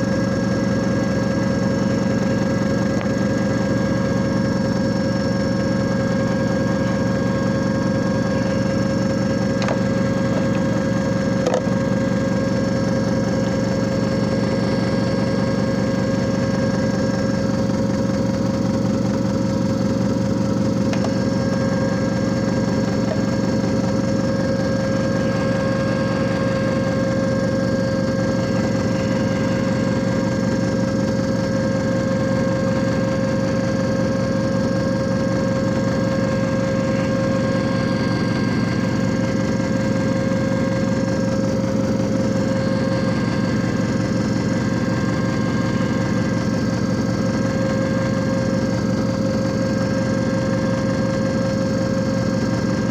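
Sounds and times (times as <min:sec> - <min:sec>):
disc repair machine motor hum: 0:00.0 - 0:52.9.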